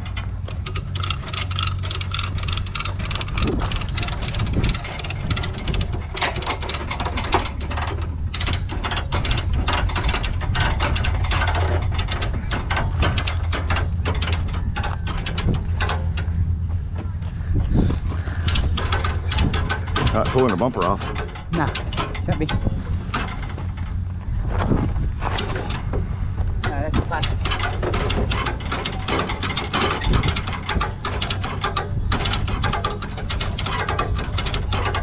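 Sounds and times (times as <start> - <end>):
rapid ratcheting clicks: 0.0 - 16.4, 18.0 - 23.7, 26.6 - 35.0
low engine hum: 0.0 - 35.0.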